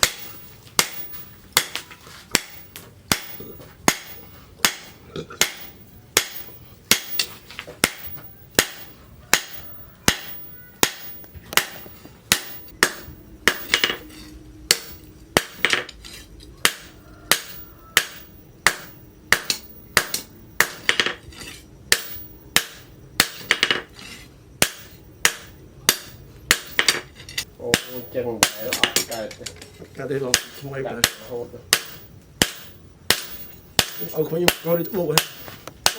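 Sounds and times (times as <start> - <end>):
hammer striking steel on anvil: 0.0 - 29.6, 30.2 - 35.9.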